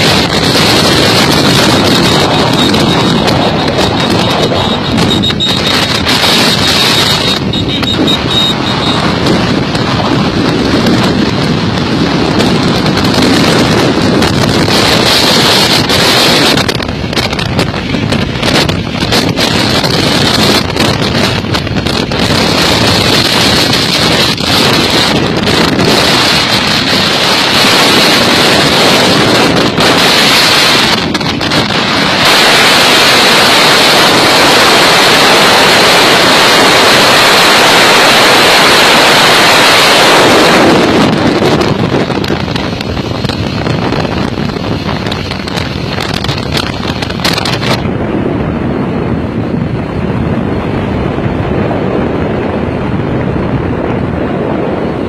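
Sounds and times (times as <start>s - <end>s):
road noise from traffic: 0.0s - 55.0s
wind rushing over microphone: 0.0s - 55.0s.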